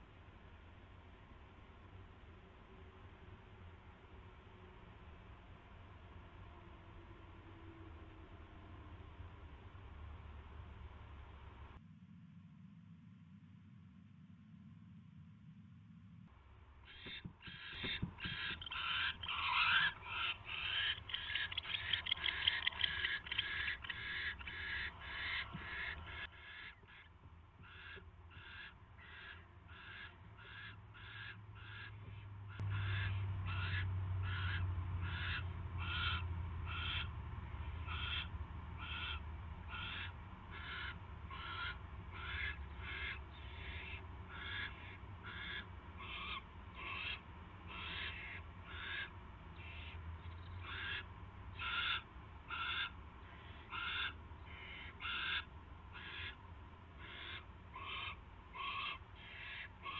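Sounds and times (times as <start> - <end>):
low hum: 0.0 - 59.8.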